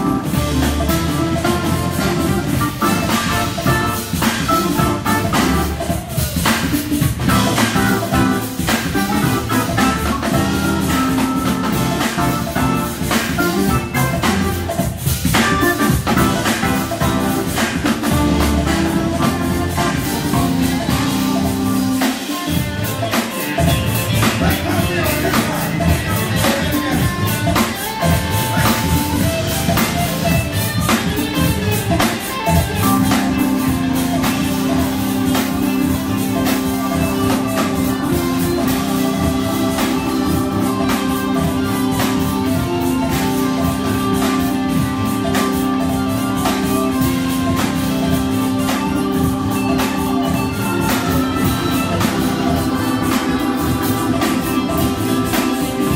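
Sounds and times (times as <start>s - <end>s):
drum kit: 0.0s - 55.9s
electric guitar: 0.0s - 55.9s
keyboards: 0.0s - 55.9s.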